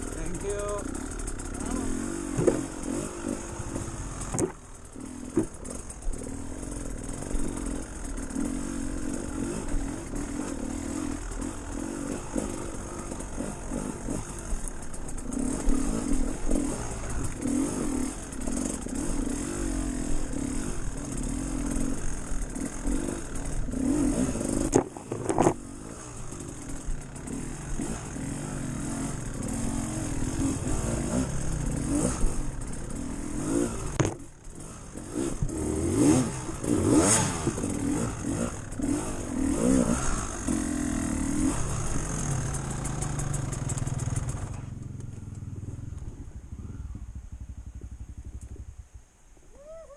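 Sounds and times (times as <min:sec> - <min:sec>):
off-road vehicle engine revving: 0:00.0 - 0:47.1.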